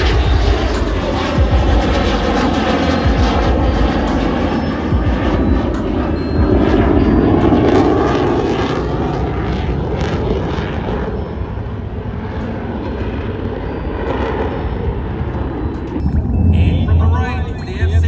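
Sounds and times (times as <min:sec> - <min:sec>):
airplane flying past: 0:00.0 - 0:18.0.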